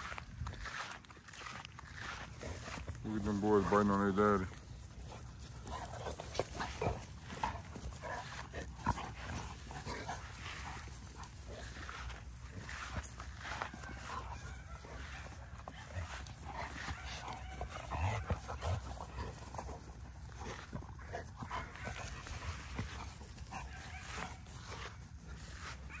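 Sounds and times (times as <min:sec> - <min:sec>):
dogs scuffling: 0:00.9 - 0:26.0.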